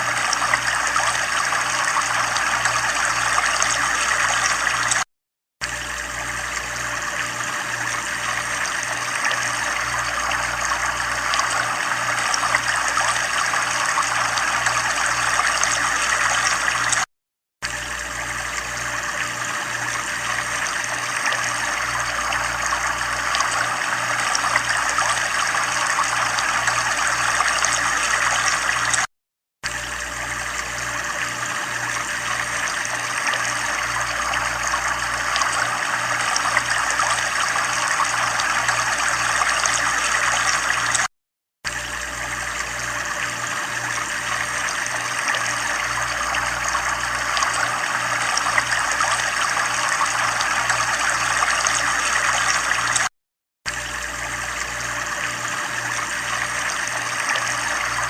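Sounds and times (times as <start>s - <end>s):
running water trickling: 0.0s - 5.0s, 5.6s - 41.1s, 41.7s - 53.1s, 53.7s - 58.0s.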